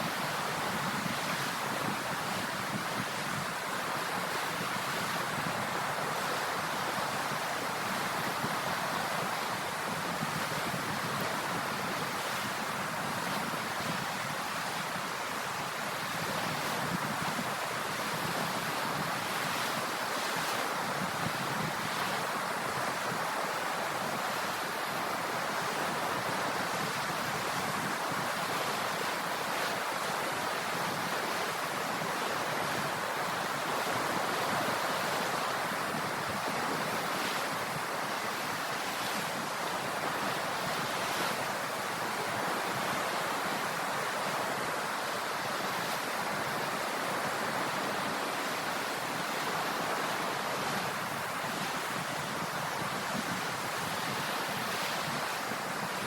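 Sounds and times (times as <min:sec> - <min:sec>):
ocean surf washing on shore: 0:00.0 - 0:56.0.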